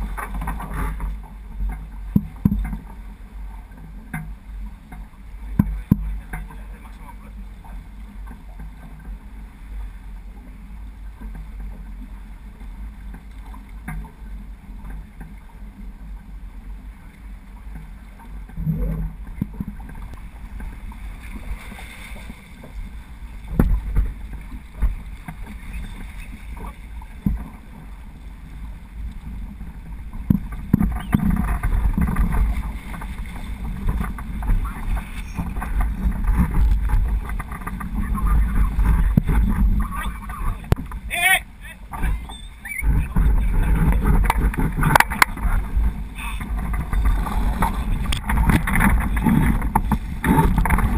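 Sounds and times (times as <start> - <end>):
knocks and thumps from boat: 0.0 - 50.9
water rushing along boat hull: 0.0 - 50.9
wind rumbling on microphone: 0.0 - 50.9.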